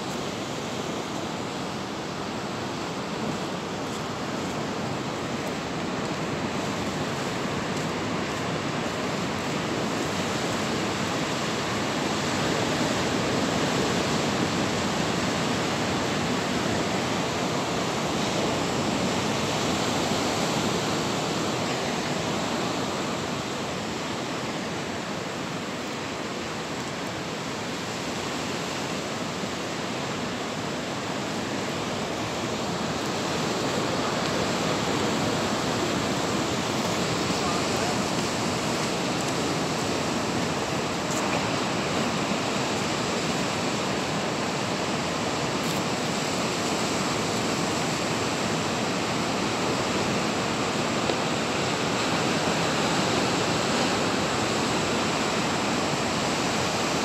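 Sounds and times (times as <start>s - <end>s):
surf breaking on shore: 0.0s - 57.0s.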